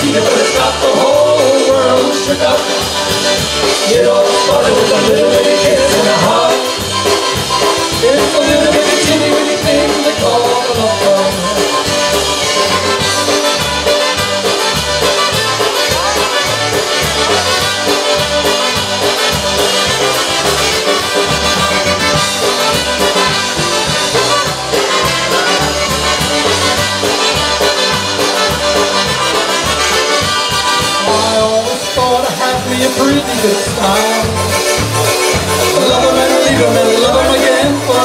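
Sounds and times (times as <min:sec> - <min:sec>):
accordion: 0:00.0 - 0:38.0
bass guitar oom-pah beat: 0:00.0 - 0:38.0
trumpets playing melody: 0:00.0 - 0:38.0.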